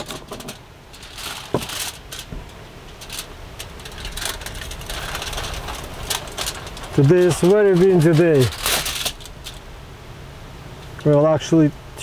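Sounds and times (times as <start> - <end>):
aluminium foil crinkling: 0.0 - 9.7.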